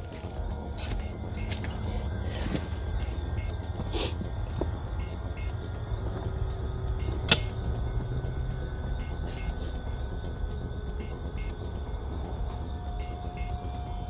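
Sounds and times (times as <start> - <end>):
insect chorus: 0.0 - 14.0
low rumble: 0.0 - 14.0.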